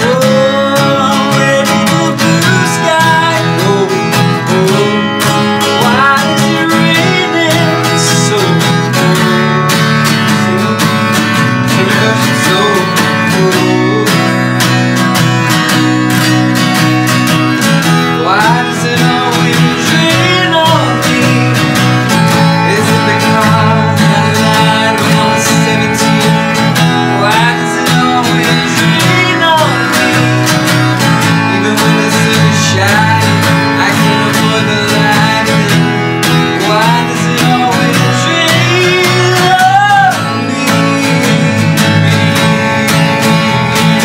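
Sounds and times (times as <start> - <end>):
electric bass guitar: 0.0 - 44.0
man singing: 0.0 - 44.0
strummed acoustic guitar: 0.0 - 44.0.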